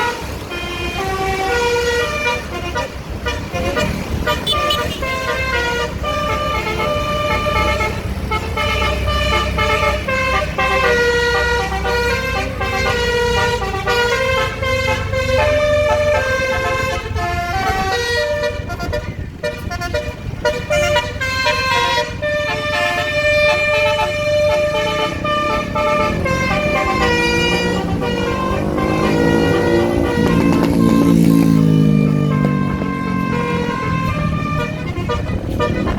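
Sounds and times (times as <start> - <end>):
low engine rumble: 0.0 - 35.9
multi-tone musical horn: 0.0 - 35.9.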